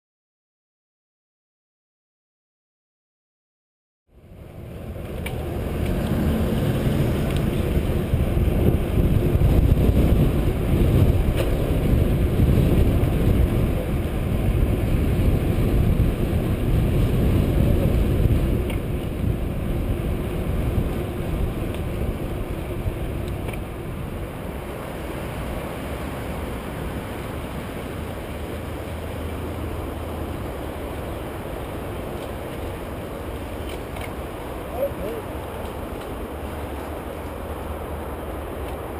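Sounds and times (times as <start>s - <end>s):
bike tyres rolling: 4.2s - 38.9s
wind rushing over microphone: 4.2s - 38.9s.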